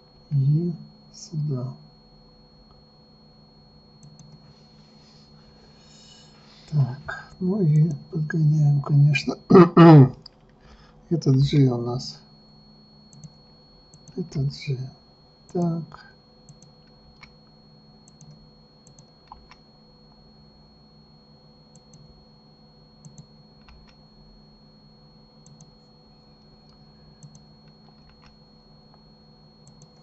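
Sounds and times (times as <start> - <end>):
faint high whine: 0.0 - 30.0
low hum: 0.0 - 30.0.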